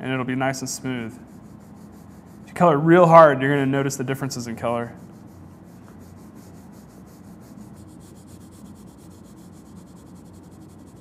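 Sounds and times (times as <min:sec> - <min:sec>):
crayon rubbing on paper: 0:00.6 - 0:11.0.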